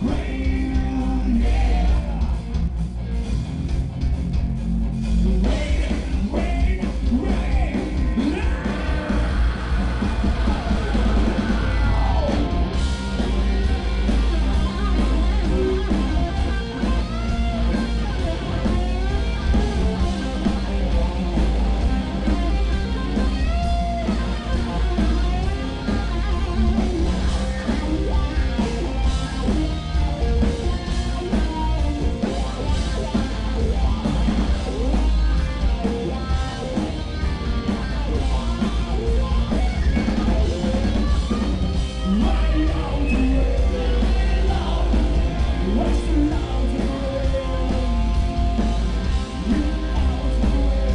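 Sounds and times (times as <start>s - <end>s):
rock band playing live: 0.0s - 50.9s.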